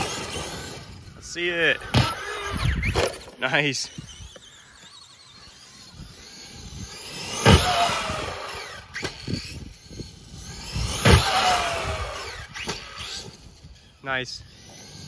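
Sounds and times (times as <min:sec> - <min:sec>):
rc truck electric motor whining: 0:00.0 - 0:15.0.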